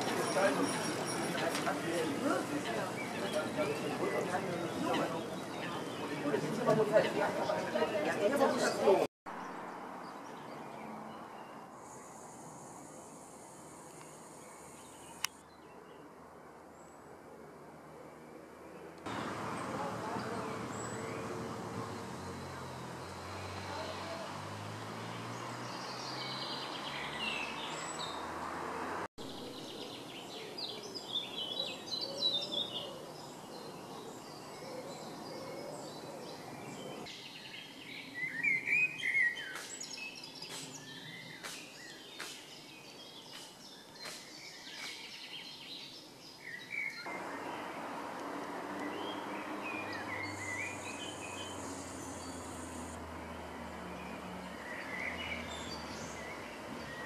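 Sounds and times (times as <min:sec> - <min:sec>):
birds chirping and trilling: 0:00.0 - 0:16.1, 0:19.1 - 0:57.0.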